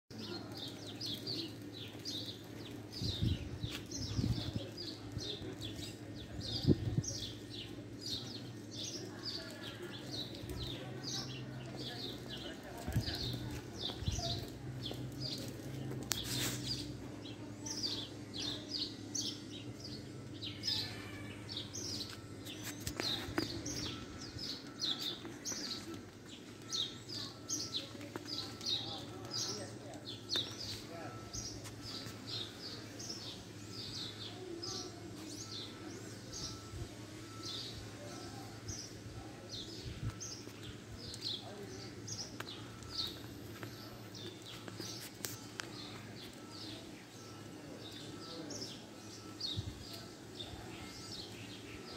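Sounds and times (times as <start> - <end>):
small birds chirping: 0.1 - 51.9.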